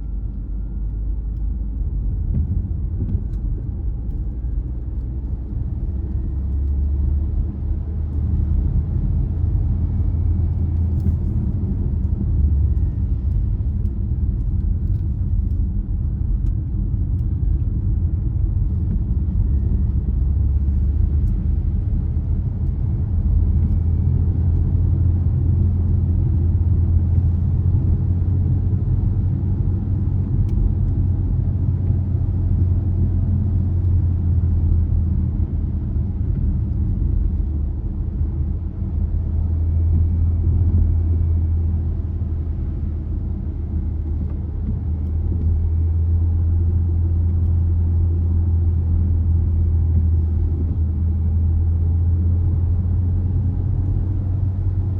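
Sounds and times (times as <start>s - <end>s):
car engine and tyre rumble: 0.0s - 54.9s.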